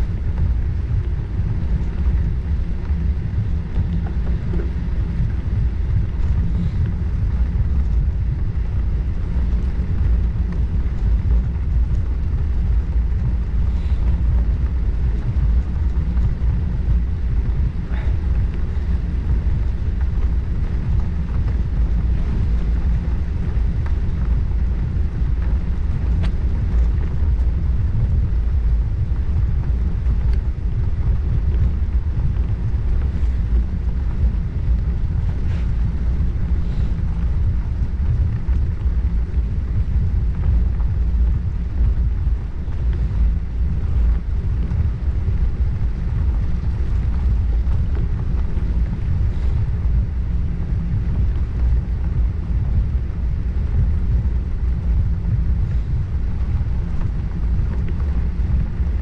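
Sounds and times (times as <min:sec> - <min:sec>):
bicycle rolling noise: 0:00.0 - 0:59.0
wind rumbling on microphone: 0:00.0 - 0:59.0.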